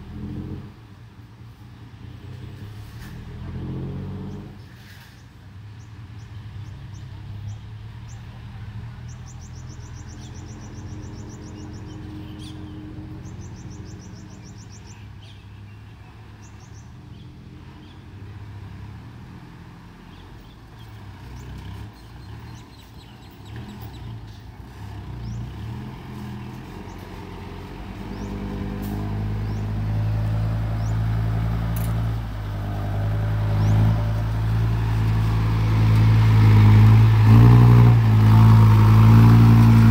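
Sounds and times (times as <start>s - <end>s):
truck diesel engine approaching: 0.0s - 39.9s.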